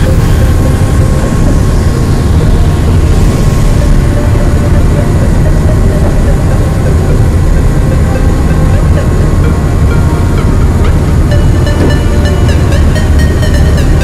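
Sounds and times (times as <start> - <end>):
boat engines rumbling: 0.0 - 14.0
churning wake: 0.0 - 14.0.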